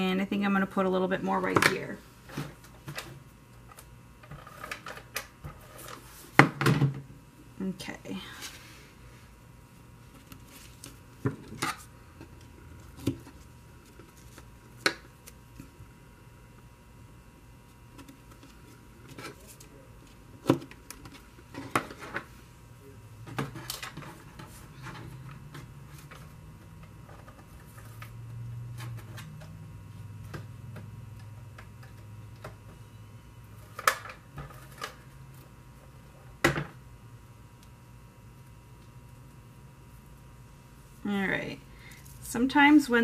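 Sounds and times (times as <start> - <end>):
faint low hum: 6.9 - 43.0.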